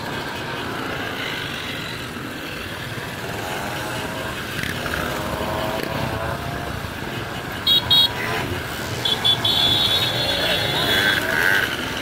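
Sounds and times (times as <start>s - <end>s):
motorcycle engine revving: 0.0s - 12.0s
motorcycles riding past: 0.0s - 12.0s.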